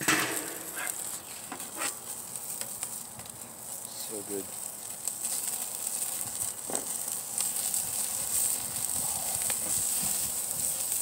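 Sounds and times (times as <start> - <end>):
meat sizzling over charcoal: 0.0 - 11.0
sharp crackles: 0.0 - 11.0.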